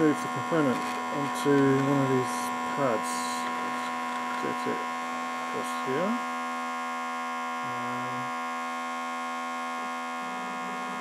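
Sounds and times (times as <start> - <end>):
stepper motor low tone: 0.0 - 11.0
vacuum pump humming: 0.0 - 11.0.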